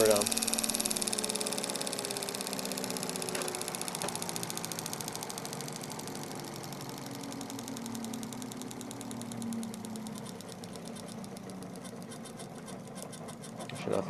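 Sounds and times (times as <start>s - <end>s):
rotors humming with rapid pulsing: 0.0s - 14.0s.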